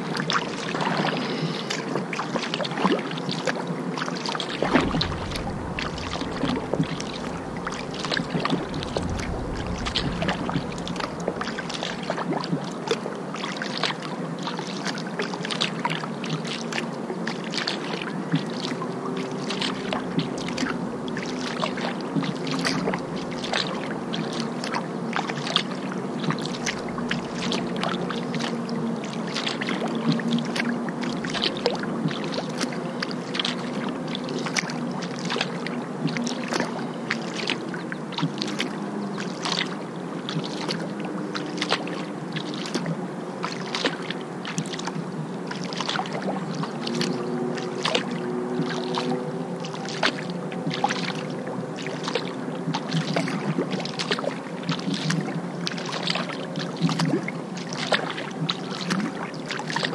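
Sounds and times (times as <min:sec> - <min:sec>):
moving water: 0:00.0 - 0:59.9
paddle splashing in water: 0:00.1 - 0:59.9.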